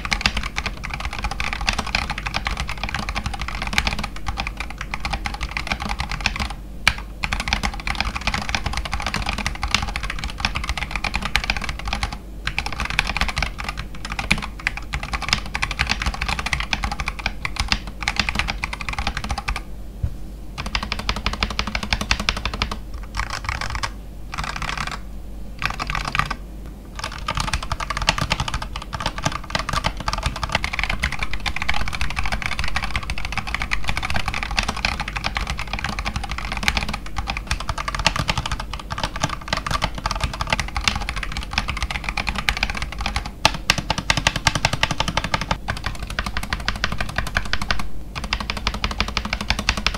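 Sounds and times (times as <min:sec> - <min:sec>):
mechanical keyboard typing: 0:00.0 - 0:19.6, 0:20.6 - 0:25.0, 0:25.6 - 0:26.4, 0:27.0 - 0:49.9.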